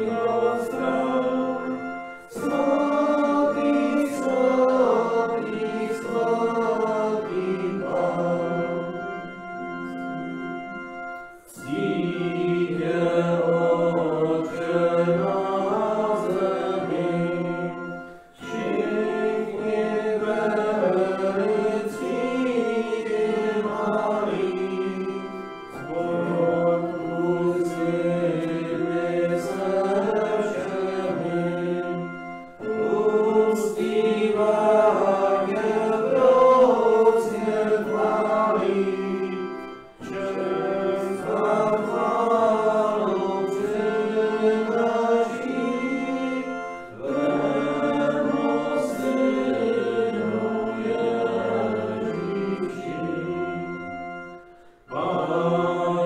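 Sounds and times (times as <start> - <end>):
hymn singing: 0.0 - 56.0.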